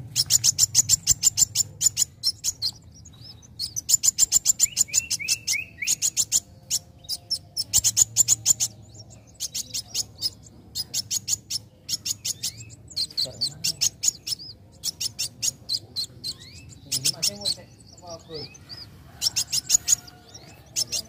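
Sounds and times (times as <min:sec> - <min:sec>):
bird high-pitched chips: 0:00.0 - 0:21.0.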